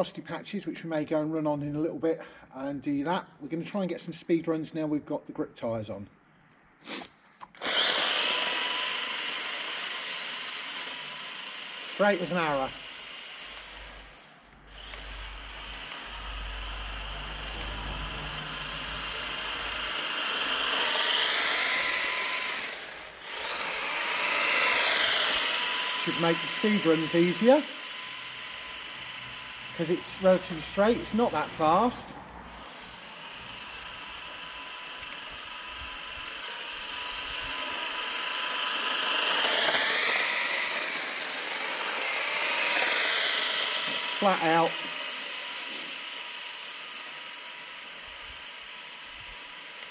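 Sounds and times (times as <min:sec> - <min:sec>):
electric motor whining: 0:06.9 - 0:49.9.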